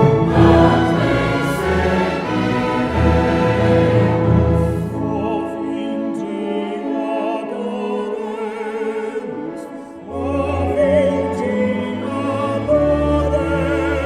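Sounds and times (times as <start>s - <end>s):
orchestral accompaniment: 0.0s - 14.0s.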